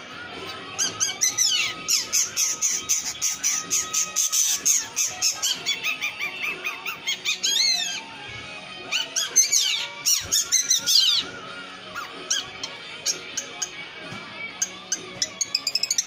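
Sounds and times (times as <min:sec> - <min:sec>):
bird singing chirps and whistles: 0:00.4 - 0:08.0, 0:08.9 - 0:13.8, 0:14.6 - 0:16.0.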